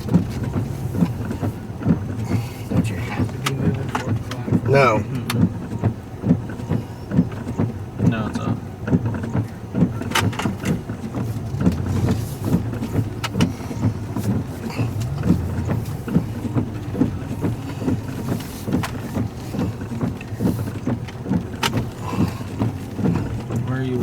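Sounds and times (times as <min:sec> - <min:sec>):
engine and road rumble: 0:00.0 - 0:24.0
vehicle knocks and jolts: 0:00.0 - 0:24.0.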